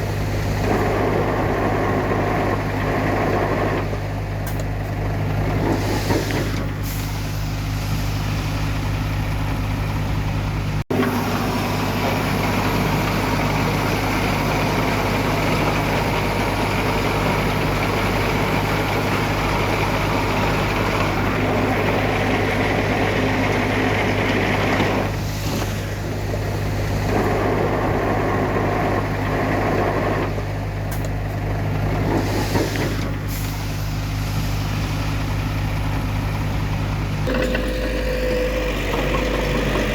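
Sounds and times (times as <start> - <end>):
heavy diesel machinery engines: 0.0 - 39.9.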